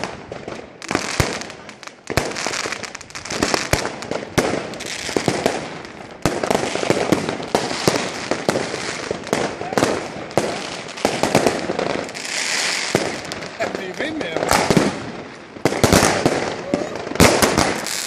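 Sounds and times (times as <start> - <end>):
firecrackers crackling: 0.0 - 18.0
fireworks banging and popping: 0.0 - 18.0.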